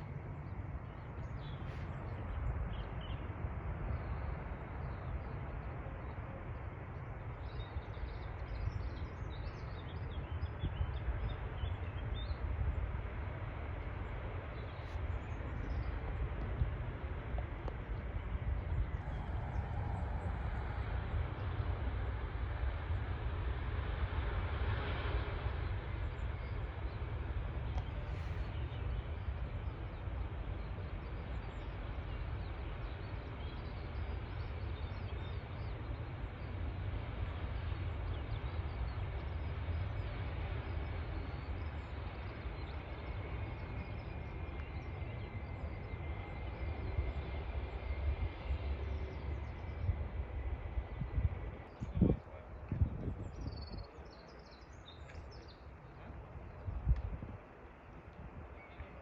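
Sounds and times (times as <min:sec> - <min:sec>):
distant jet engine whine: 0:00.0 - 0:59.0
wind rumble on microphone: 0:00.0 - 0:59.0.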